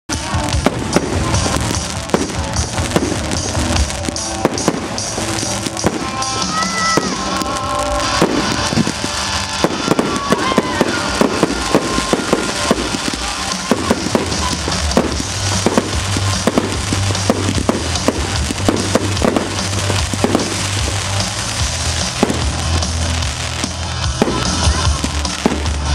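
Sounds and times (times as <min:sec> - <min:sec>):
fireworks bangs and crackles: 0:00.1 - 0:25.9.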